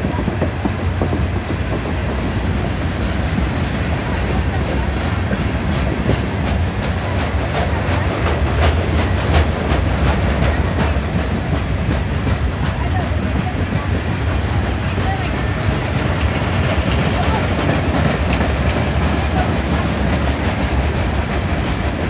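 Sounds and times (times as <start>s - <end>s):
freight train rumbling past: 0.0s - 22.0s
wheels clacking over rail joints: 0.0s - 22.0s.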